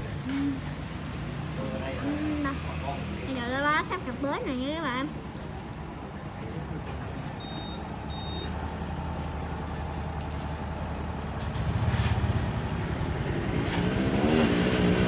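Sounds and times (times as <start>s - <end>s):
motorbike engines revving: 0.0s - 15.0s.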